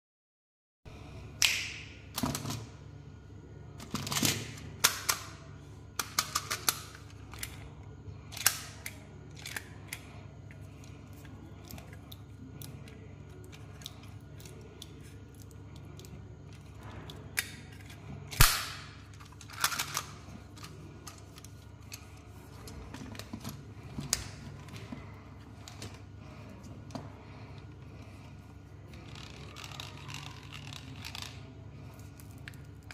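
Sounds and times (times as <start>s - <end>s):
low steady hum: 0.9s - 32.9s.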